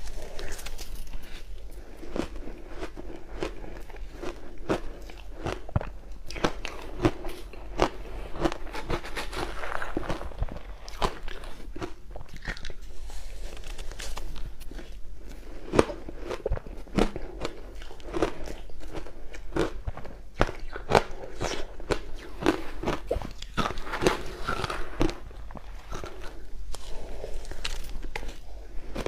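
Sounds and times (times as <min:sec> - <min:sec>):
crushed ice being chewed: 0:00.0 - 0:29.0.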